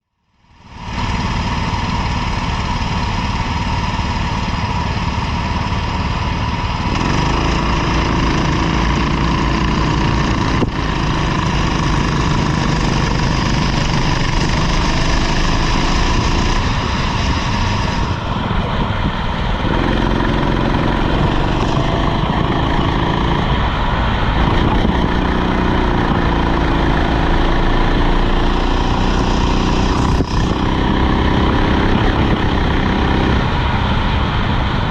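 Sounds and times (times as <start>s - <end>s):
steady rushing noise: 0.6s - 34.9s
kart engine revving: 0.8s - 34.9s.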